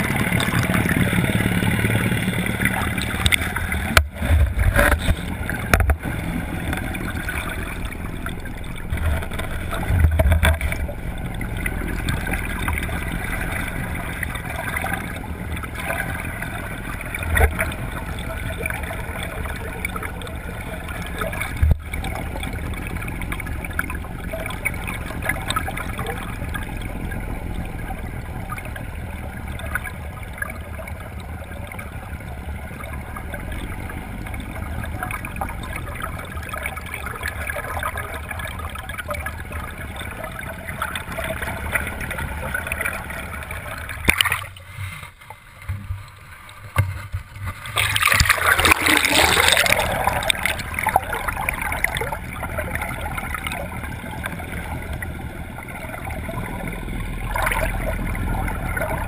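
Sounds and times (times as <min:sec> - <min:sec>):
boat engine rumble: 0:00.0 - 0:59.0
water rushing and gurgling: 0:00.0 - 0:59.0.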